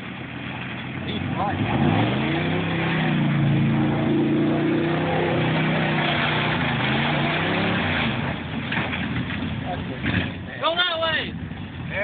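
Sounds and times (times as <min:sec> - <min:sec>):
truck driving through mud: 0:00.0 - 0:12.0
pickup truck engine revving: 0:00.9 - 0:12.0.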